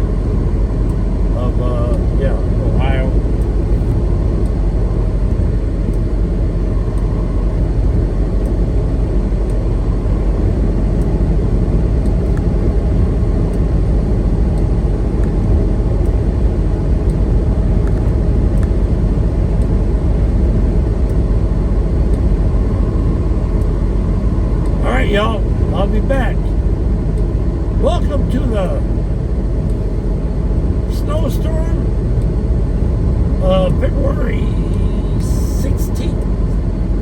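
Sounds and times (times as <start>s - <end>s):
truck engine and tyres rumbling: 0.0s - 37.0s.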